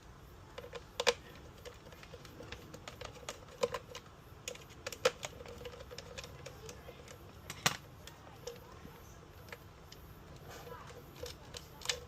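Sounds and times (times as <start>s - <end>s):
plastic parts clicking and tapping: 0.5s - 12.0s.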